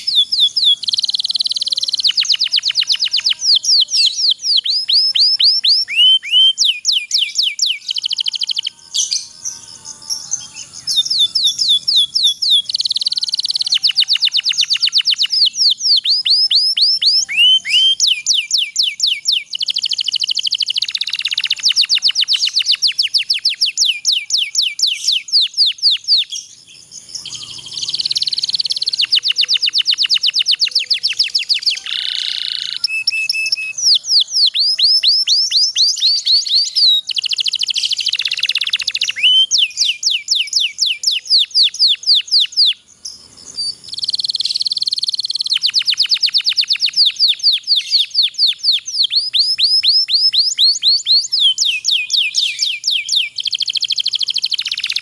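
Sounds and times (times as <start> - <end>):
canary singing rolling trills: 0.0 - 55.0.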